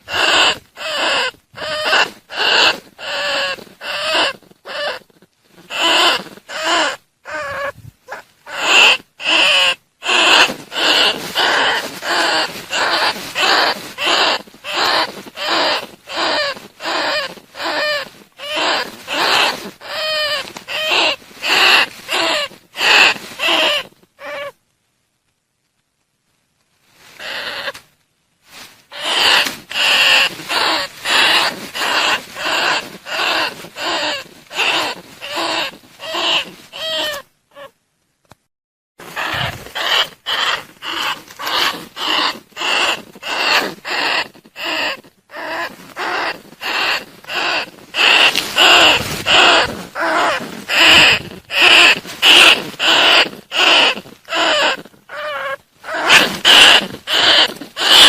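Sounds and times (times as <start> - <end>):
rat calls: 0.1 - 24.6, 27.2 - 27.9, 28.9 - 37.8, 39.0 - 58.0.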